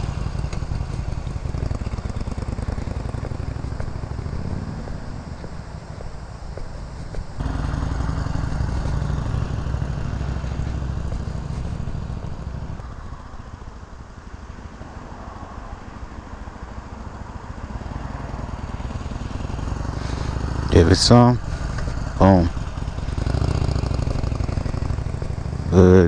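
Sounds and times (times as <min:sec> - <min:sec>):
motorcycle engine under throttle: 0:00.0 - 0:12.8, 0:13.4 - 0:26.0.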